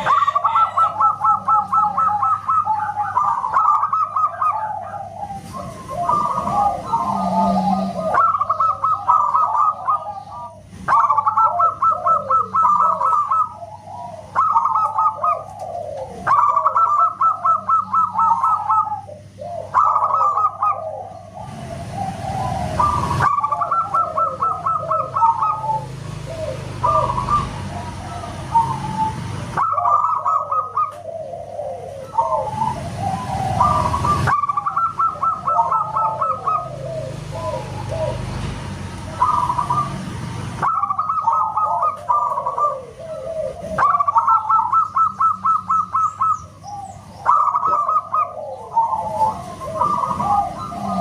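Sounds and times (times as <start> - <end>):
doves cooing with trilled notes: 0.0 - 51.0.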